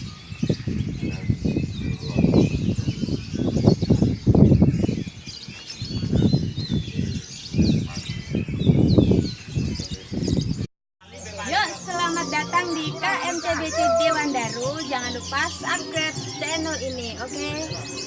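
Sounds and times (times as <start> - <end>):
songbirds chirping and twittering: 0.0 - 18.0.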